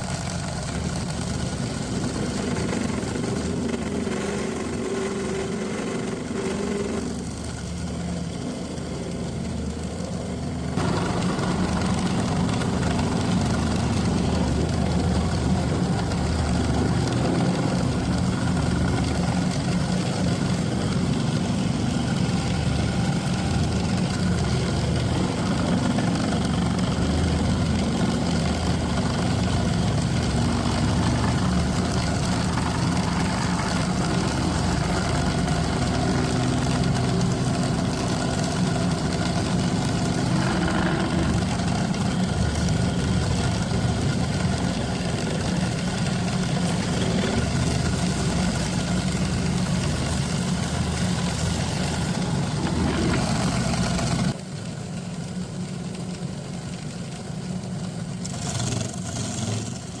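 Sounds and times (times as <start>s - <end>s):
wood lathe motor humming: 0.0s - 54.4s.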